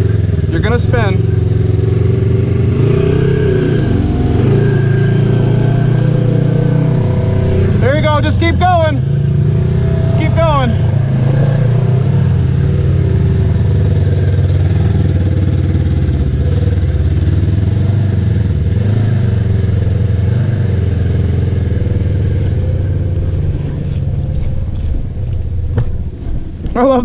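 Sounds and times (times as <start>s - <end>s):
utility vehicle engine running: 0.0s - 27.0s.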